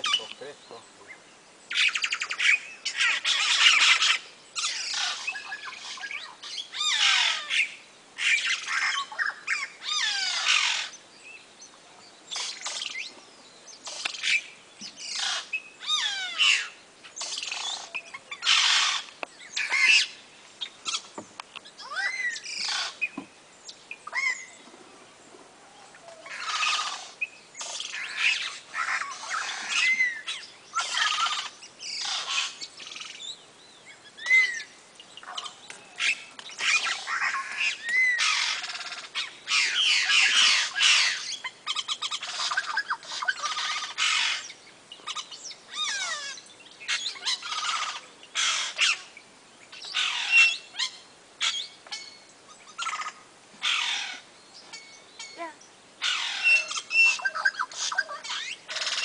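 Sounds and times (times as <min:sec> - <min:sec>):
birds chattering and squawking: 0:00.0 - 0:59.0.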